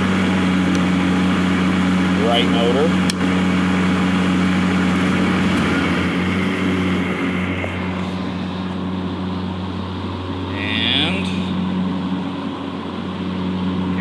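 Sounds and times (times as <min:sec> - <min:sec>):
electric mower motors humming: 0:00.0 - 0:14.0.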